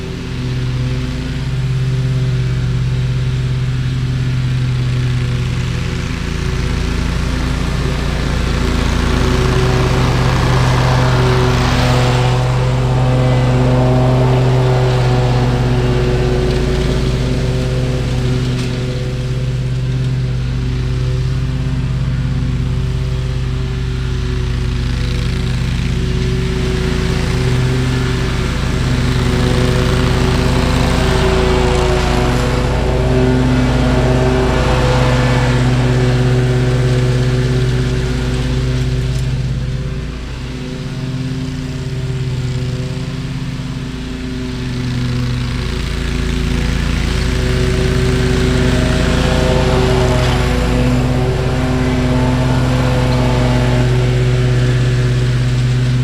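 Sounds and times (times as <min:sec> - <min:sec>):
lawn mower running: 0:00.0 - 0:56.0.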